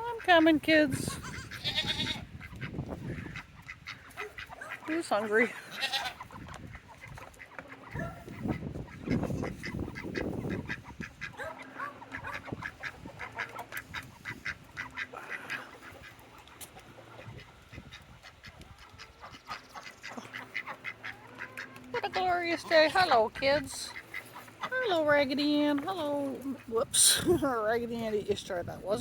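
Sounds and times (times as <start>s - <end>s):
wind buffeting microphone: 0.0s - 4.6s, 6.1s - 15.1s, 16.8s - 19.8s, 22.0s - 29.0s
geese honking: 0.0s - 27.0s
ducks quacking: 0.0s - 29.0s.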